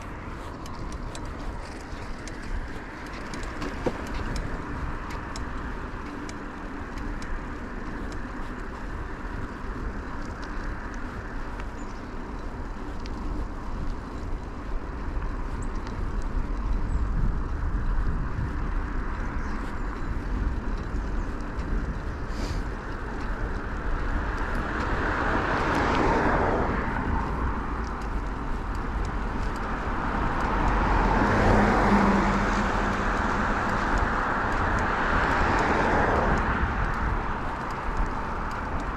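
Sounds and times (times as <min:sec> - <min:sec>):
bicycle tyre noise: 0:00.0 - 0:38.9
motor traffic passing: 0:00.0 - 0:38.9
wind rumble: 0:00.0 - 0:38.9.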